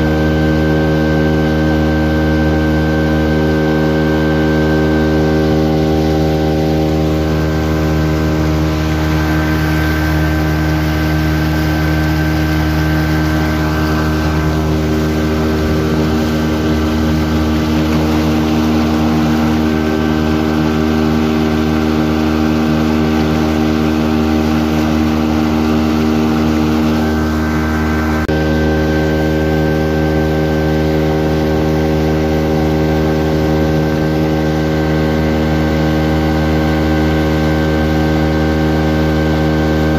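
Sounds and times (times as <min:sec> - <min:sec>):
motorboat engine humming: 0:00.0 - 0:39.9
water rushing past hull: 0:00.0 - 0:39.9.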